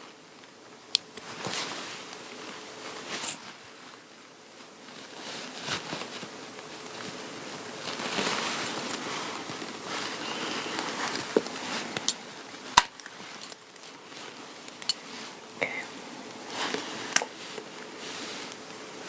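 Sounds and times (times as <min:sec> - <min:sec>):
rustling of materials being handled: 0:00.0 - 0:19.0.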